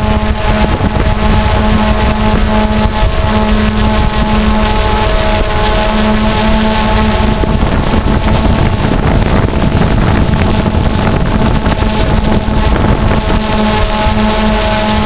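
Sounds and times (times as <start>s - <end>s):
drone motors whining: 0.0s - 15.0s
wind on microphone: 0.0s - 15.0s.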